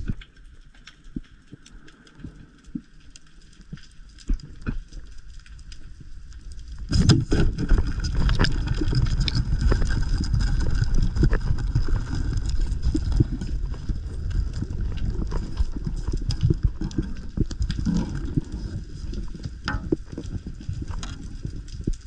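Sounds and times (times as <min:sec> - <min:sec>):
low underwater rumbling: 0:04.2 - 0:22.0.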